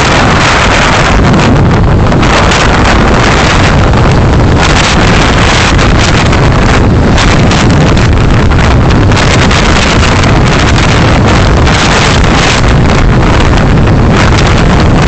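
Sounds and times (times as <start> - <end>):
road noise from a car: 0.0 - 15.0
wind rushing: 0.0 - 15.0.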